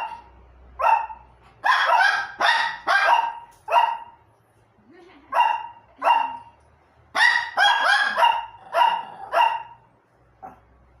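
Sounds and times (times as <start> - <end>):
dogs barking: 0.0 - 4.2, 5.3 - 10.7.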